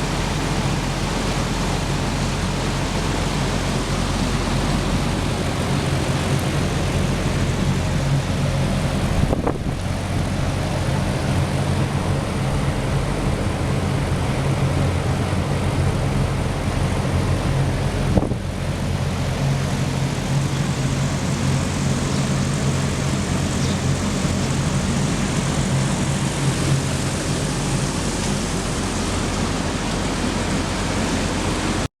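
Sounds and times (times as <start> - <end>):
heat pump whooshing and humming: 0.0 - 31.9.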